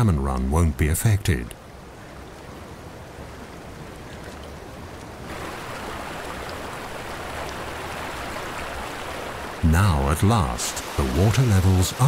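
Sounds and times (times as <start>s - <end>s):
river water rushing: 1.5s - 12.0s.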